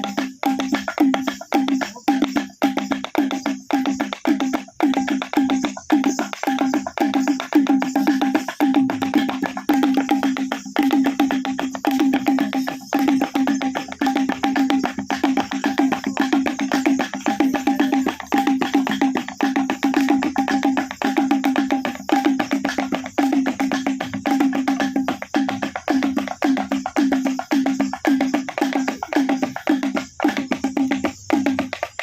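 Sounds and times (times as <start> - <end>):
pitched percussion music: 0.0 - 32.0.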